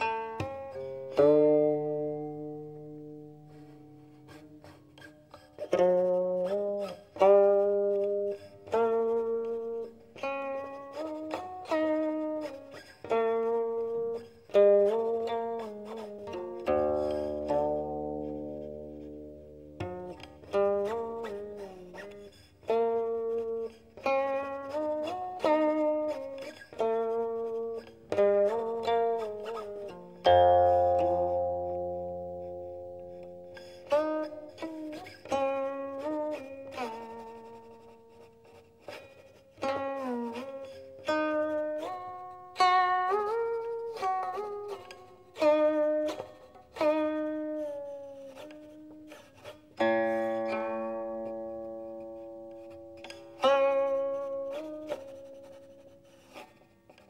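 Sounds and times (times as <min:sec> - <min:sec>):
zither plucked notes: 0:00.0 - 0:57.0.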